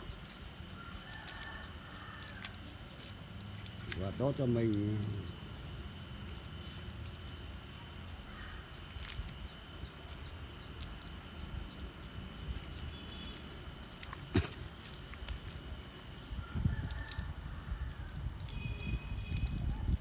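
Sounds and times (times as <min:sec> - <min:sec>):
faint high whine: 0:00.0 - 0:16.8, 0:17.5 - 0:20.0
hose water splashing on concrete: 0:00.0 - 0:20.0.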